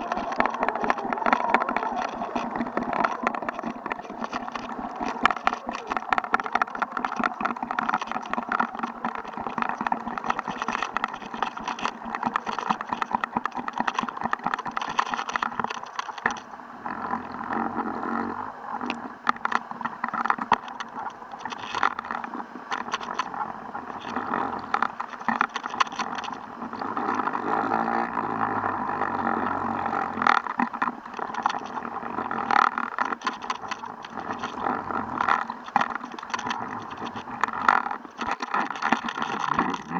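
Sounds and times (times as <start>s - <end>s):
crackling clicks: 0.0s - 39.9s
underwater hum: 0.0s - 39.9s.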